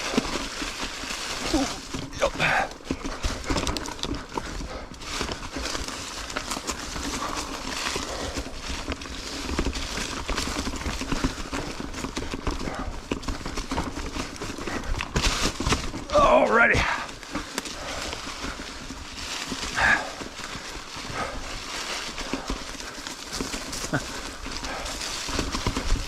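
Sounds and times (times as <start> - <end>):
bike rattling over rocks: 0.0 - 26.0.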